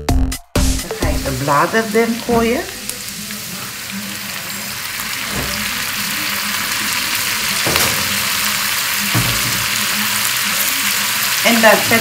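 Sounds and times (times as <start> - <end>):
greens sizzling in butter: 0.9 - 12.0.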